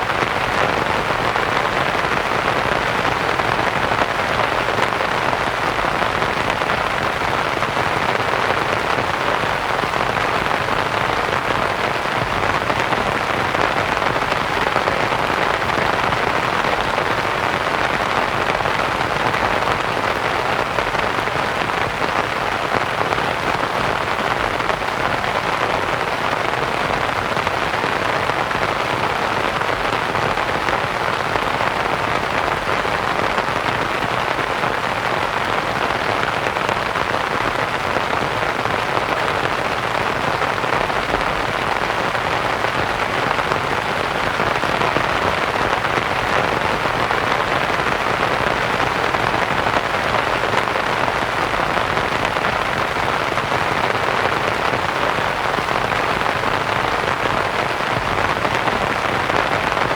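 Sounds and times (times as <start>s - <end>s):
rain pattering on a tent: 0.0s - 59.9s.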